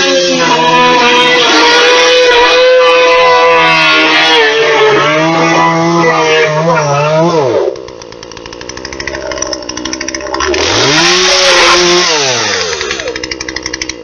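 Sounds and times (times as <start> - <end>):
chainsaw revving and idling: 0.0 - 14.0.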